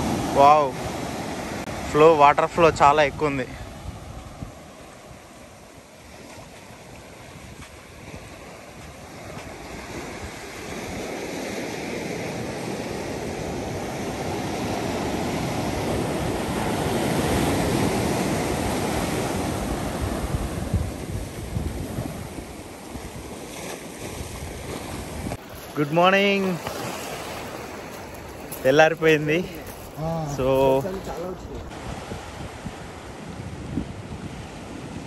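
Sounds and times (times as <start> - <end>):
ocean surf washing in: 0.0 - 35.0
wind gusting on microphone: 0.0 - 35.0.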